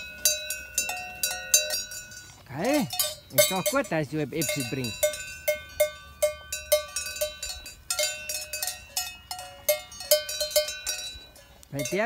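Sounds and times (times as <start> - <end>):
cowbell clanking: 0.0 - 12.0.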